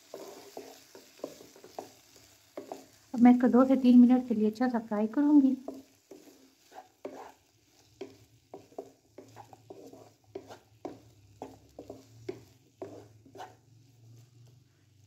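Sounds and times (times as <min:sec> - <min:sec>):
spatula scraping a pan: 0:00.0 - 0:03.2, 0:05.5 - 0:14.5
vegetables sizzling in oil: 0:00.0 - 0:15.0.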